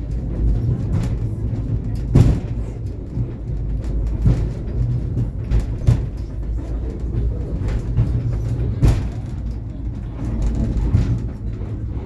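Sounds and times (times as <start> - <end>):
funicular car rumbling: 0.0 - 12.0.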